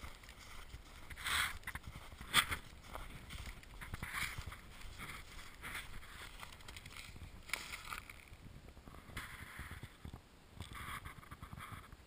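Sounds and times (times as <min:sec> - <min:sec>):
footsteps crunching in snow: 0:00.0 - 0:11.8
wind rumble on microphone: 0:00.0 - 0:12.0.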